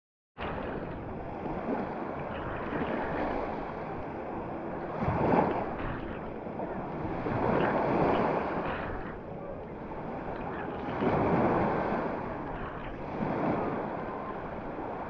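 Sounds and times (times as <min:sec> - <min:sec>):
small waves washing on sand: 0:00.4 - 0:15.0.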